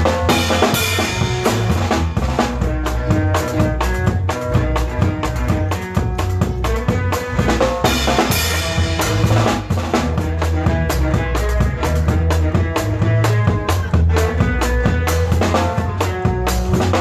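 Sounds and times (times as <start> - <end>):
band playing instrumental music: 0.0 - 17.0.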